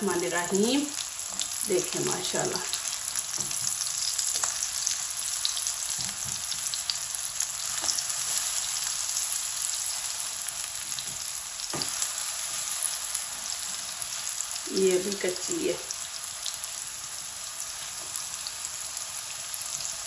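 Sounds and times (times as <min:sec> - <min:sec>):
patties sizzling in oil: 0:00.0 - 0:20.0.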